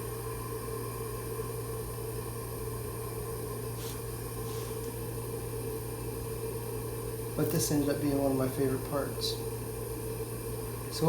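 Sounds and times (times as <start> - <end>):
workshop hum and hiss: 0.0 - 11.0.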